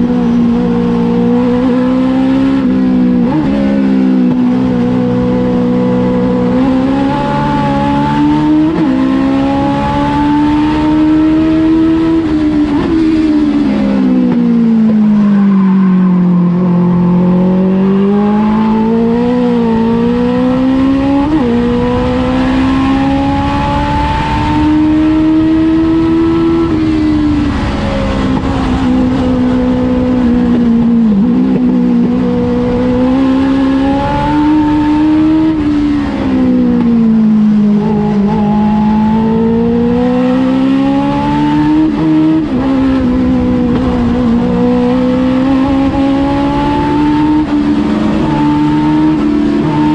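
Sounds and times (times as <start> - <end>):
race car engine at speed: 0.0 - 49.9.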